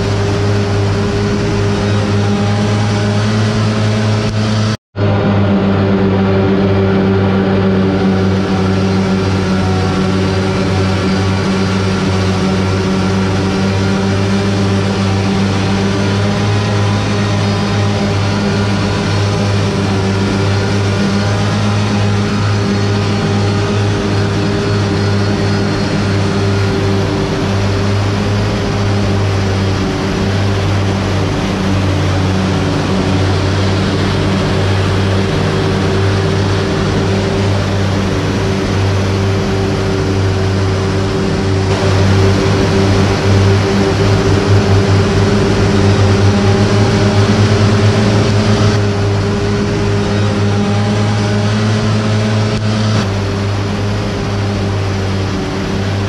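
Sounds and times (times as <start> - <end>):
steady motor hum: 0.0 - 56.0.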